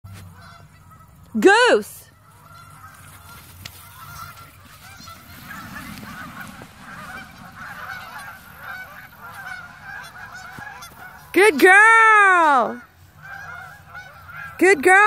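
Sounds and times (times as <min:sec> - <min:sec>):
geese honking: 0:00.1 - 0:15.0.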